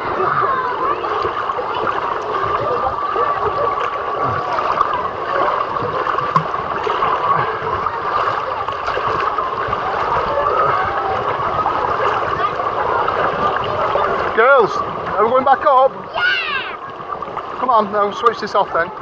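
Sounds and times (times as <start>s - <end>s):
distant voices: 0.0s - 19.0s
splashing water: 0.0s - 19.0s.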